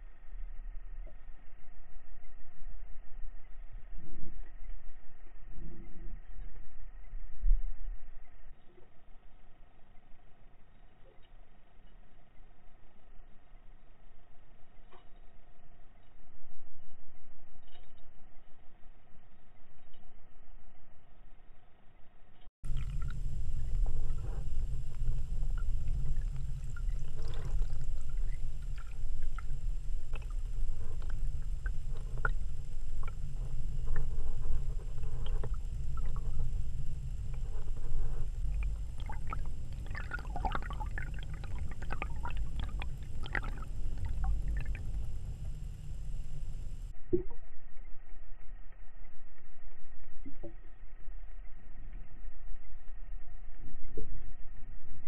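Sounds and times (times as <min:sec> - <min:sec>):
faint high whine: 0:00.0 - 0:55.0
underwater rumble of moving water: 0:00.0 - 0:55.0
small underwater clicks: 0:07.8 - 0:21.3, 0:22.3 - 0:55.0.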